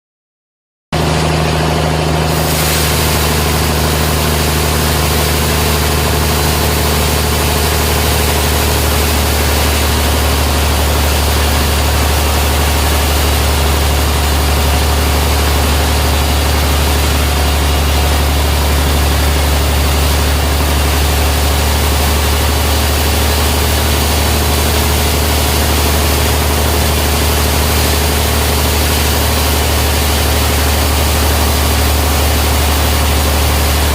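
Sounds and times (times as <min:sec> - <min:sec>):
sawmill machinery hum: 0:01.0 - 0:33.9
machinery hiss: 0:02.3 - 0:33.9.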